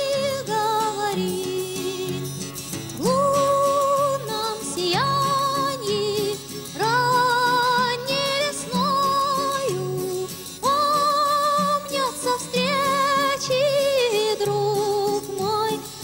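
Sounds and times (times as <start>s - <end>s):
plucked string accompaniment: 0.0s - 16.0s
woman singing with vibrato: 0.0s - 16.0s.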